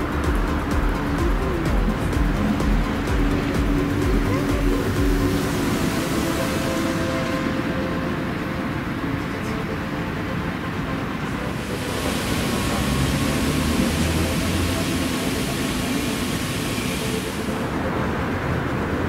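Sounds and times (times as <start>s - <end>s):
fountain water spraying: 0.0s - 9.2s, 10.3s - 19.0s
city traffic rumble: 0.0s - 19.0s.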